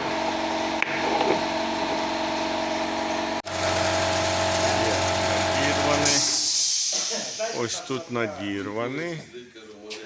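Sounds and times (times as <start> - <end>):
machine humming: 0.0 - 8.7.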